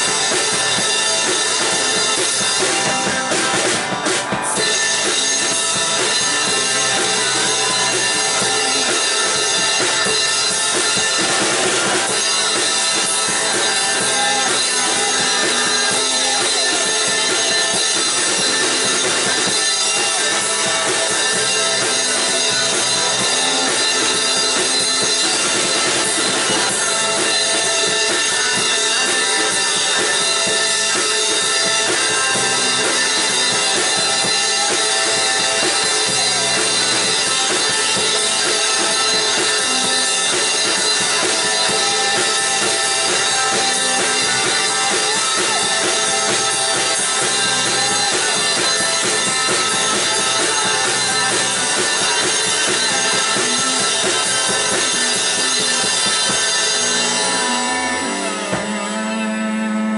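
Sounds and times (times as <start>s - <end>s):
drum kit: 0.0s - 59.9s
guitars: 0.0s - 59.9s.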